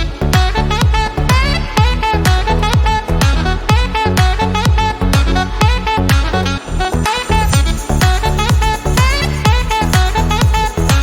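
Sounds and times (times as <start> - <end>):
kick drum: 0.0 - 6.4, 7.5 - 11.0
electronic swing music: 0.0 - 11.0.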